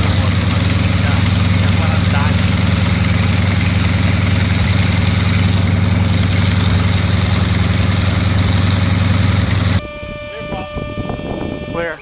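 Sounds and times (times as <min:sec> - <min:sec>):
radial aircraft engine running: 0:00.0 - 0:12.0.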